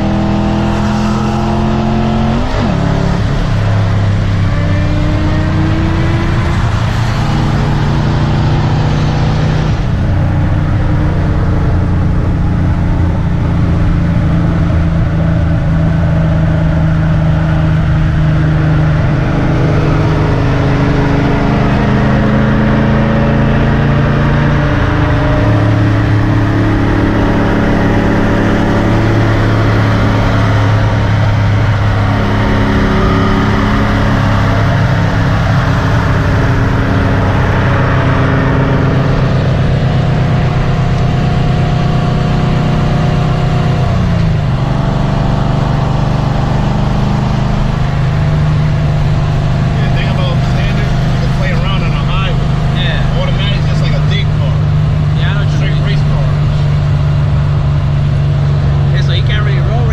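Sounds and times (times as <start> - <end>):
car engine droning: 0.0 - 59.9
road noise: 0.0 - 59.9.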